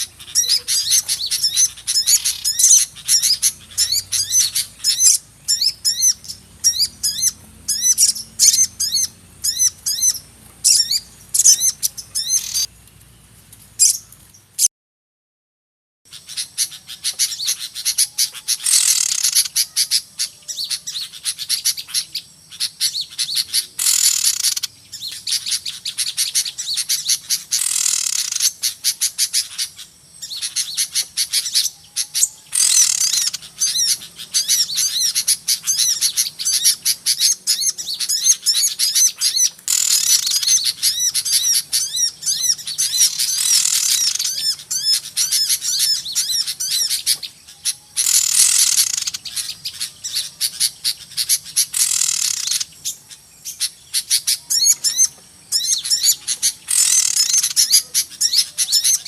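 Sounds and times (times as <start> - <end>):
high descending bird calls: 0.0 - 12.7, 16.1 - 59.0
songbirds chirping and twittering: 0.0 - 14.7, 16.1 - 59.0.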